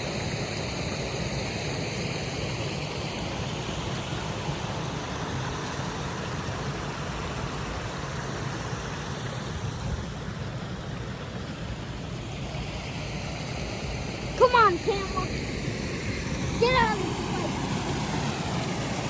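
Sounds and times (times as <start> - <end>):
waterfall rushing: 1.6 - 19.0.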